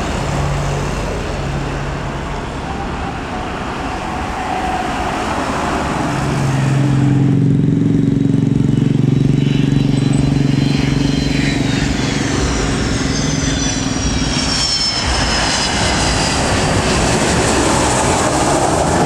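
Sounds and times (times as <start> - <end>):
jet airliner passing: 0.0 - 19.0
low engine hum: 0.0 - 19.0.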